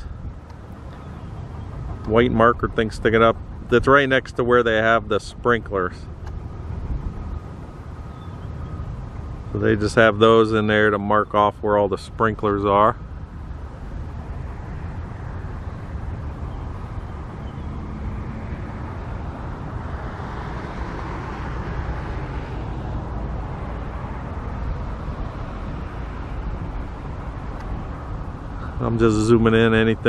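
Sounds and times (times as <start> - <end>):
distant road traffic rumble: 0.0 - 30.0.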